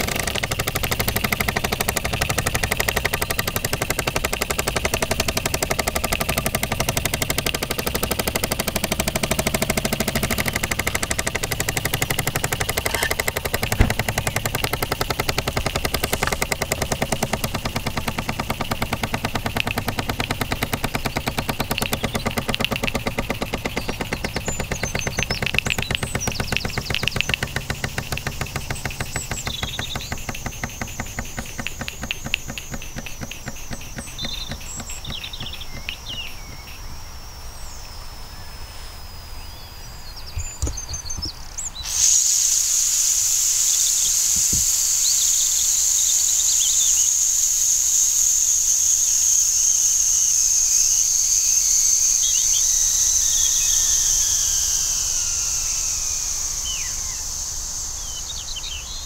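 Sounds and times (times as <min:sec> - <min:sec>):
model steam engine chuffing: 0:00.0 - 0:36.6, 0:41.8 - 0:58.8
steam venting with whistling hiss: 0:00.0 - 0:39.4, 0:40.4 - 0:59.0.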